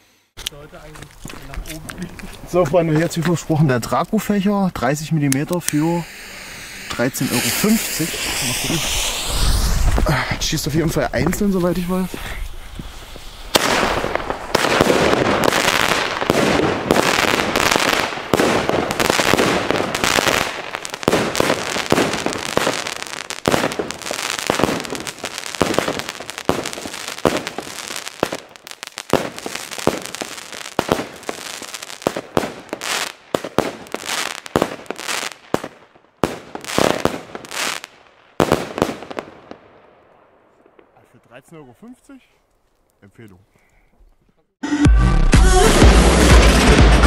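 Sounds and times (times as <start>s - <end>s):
fireworks bangs and crackle: 0.4s - 41.6s, 45.5s - 47.0s.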